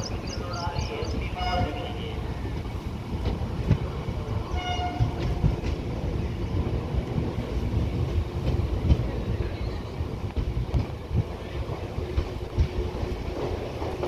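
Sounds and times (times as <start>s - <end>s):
train coaches rumbling: 0.0s - 14.0s
train wheels knocking: 0.0s - 14.0s.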